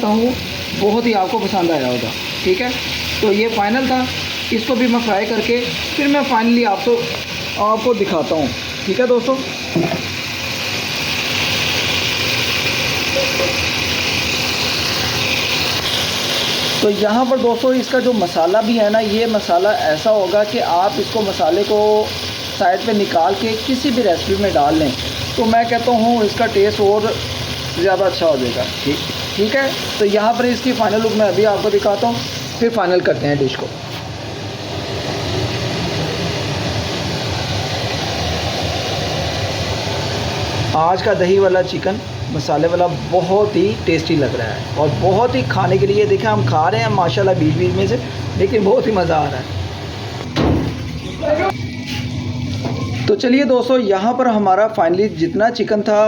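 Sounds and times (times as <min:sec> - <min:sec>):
chicken sizzling in a pan: 0:00.0 - 0:50.2.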